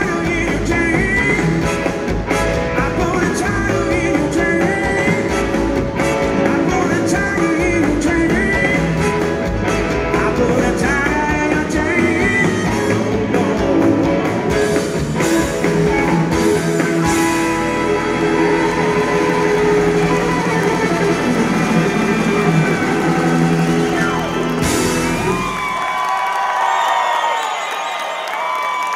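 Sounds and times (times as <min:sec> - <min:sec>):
live blues rock band: 0:00.0 - 0:25.7.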